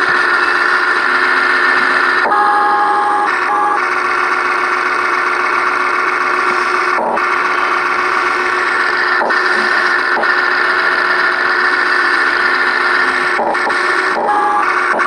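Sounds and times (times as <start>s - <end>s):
small motors and gears whining: 0.0s - 15.0s.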